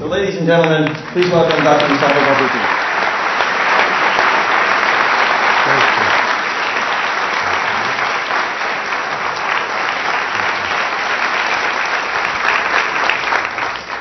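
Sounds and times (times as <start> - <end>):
audience applauding: 0.5 - 14.0.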